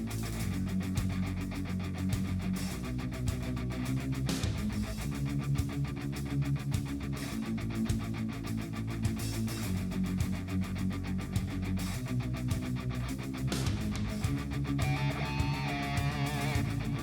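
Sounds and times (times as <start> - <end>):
guitar rock music: 0.0 - 17.0.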